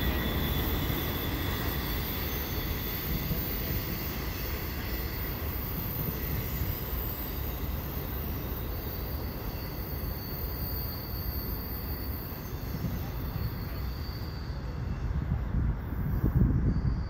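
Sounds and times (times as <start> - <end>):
high-pitched wheel squeal: 0.0 - 15.3
train wheels rumbling on rail: 0.0 - 17.0.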